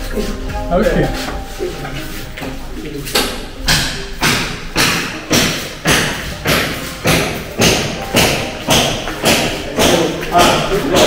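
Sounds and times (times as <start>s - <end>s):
footsteps on tiled floor: 0.0s - 11.0s.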